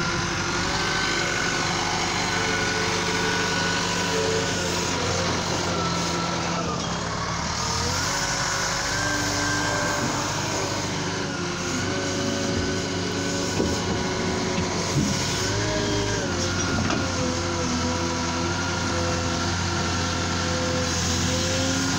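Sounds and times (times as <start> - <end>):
wheel loader diesel engine running: 0.0 - 21.9.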